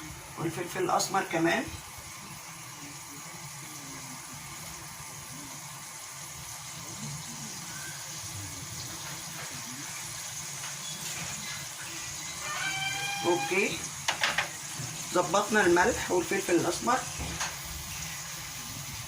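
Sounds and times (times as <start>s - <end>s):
sauce sizzling in a pan: 0.0s - 19.0s.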